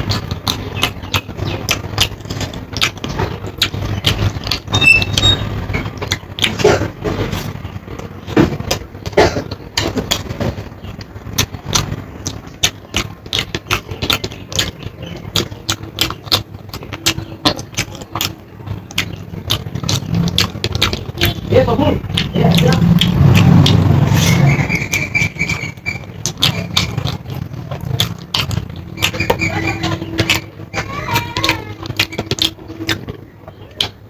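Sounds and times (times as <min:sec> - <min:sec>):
chewing and crunching: 0:00.0 - 0:34.0.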